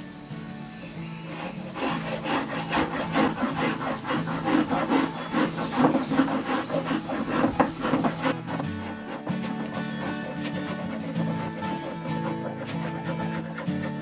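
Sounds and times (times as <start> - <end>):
spokeshave rasping on wood: 1.2 - 14.0.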